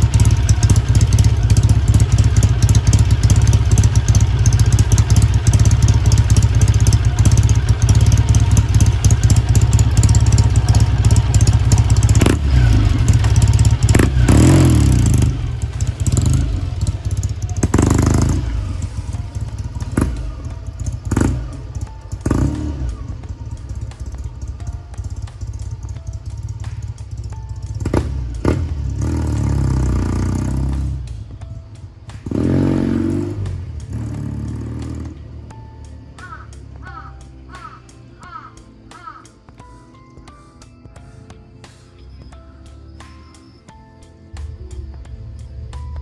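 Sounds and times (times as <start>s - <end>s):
motorcycle engine idling and revving: 0.0s - 46.0s.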